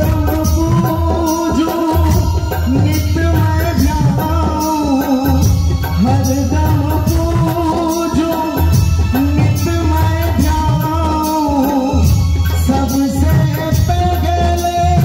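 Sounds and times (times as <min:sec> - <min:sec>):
keyboard: 0:00.0 - 0:15.0
man singing devotional song: 0:00.0 - 0:15.0
percussion: 0:00.0 - 0:15.0.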